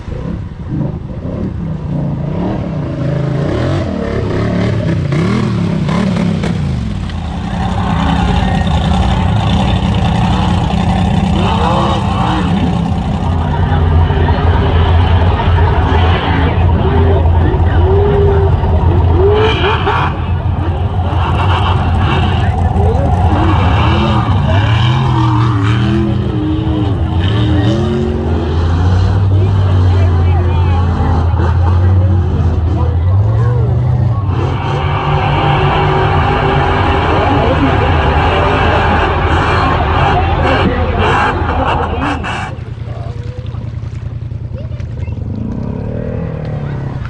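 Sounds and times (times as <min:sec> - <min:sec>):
truck engine revving: 0:02.2 - 0:44.6.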